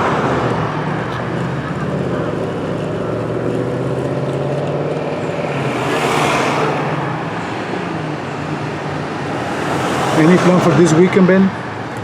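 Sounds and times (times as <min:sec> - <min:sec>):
car passing: 0:00.0 - 0:12.0
traffic engine hum: 0:00.0 - 0:12.0.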